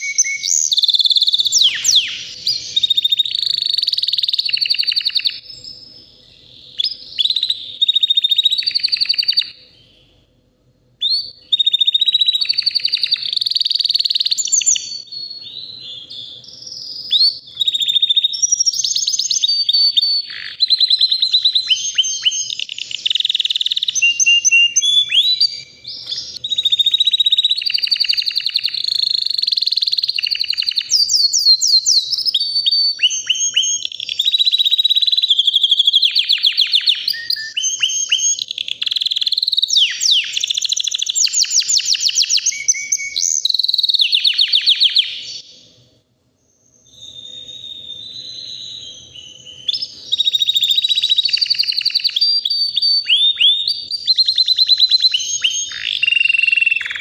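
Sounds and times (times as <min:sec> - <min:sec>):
canary singing trills: 0:00.0 - 0:10.4, 0:11.0 - 0:45.9, 0:46.5 - 0:57.0.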